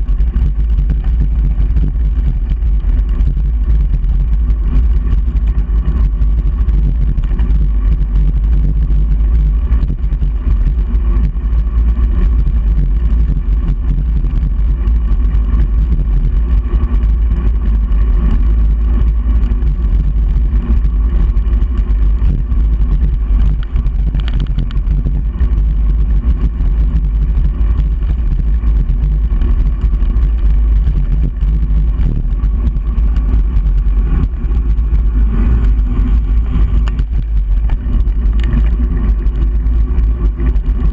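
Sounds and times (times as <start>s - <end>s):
road rumble: 0.0s - 40.9s
wind buffeting microphone: 0.0s - 40.9s.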